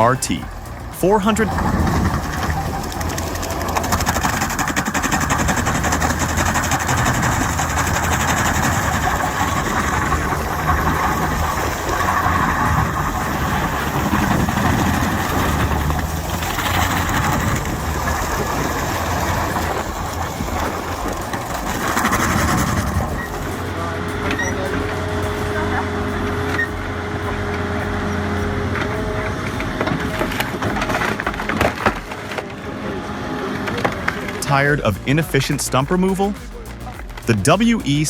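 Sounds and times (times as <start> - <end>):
mulching machine engine running: 0.0 - 38.0.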